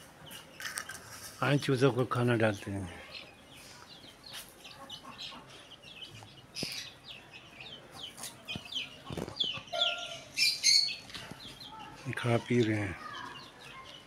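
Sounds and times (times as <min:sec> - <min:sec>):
young chickens peeping: 0:00.0 - 0:14.0.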